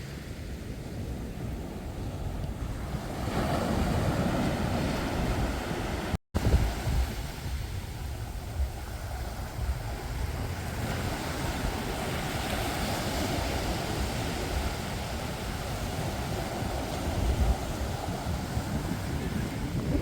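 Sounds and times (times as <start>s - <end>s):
ocean surf washing ashore: 0.0s - 20.0s
wind rumbling on microphone: 0.0s - 20.0s.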